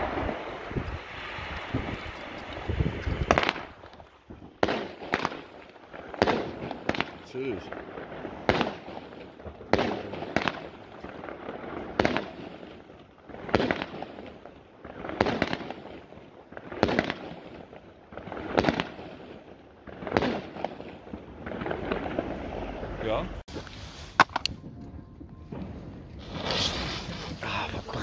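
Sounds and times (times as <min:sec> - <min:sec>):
fireworks bangs with crackling: 0:00.0 - 0:28.0.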